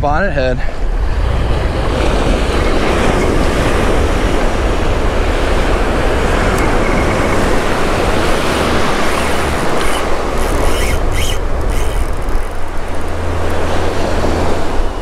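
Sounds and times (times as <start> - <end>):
surf breaking and washing: 0.0 - 15.0
wind rumble on microphone: 0.0 - 15.0.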